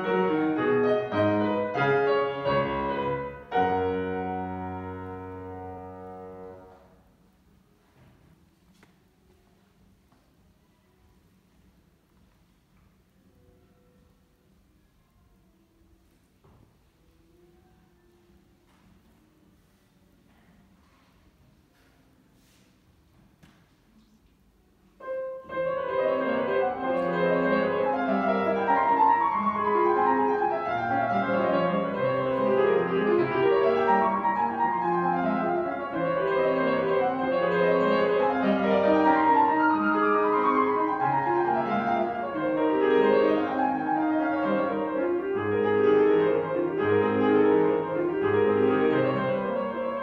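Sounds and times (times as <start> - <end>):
solo grand piano classical piece: 0.0 - 23.4, 24.6 - 50.0.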